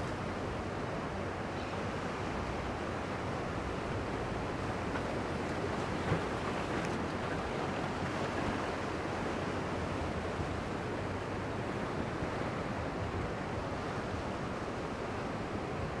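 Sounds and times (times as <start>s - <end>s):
small ocean waves breaking: 0.0s - 16.0s.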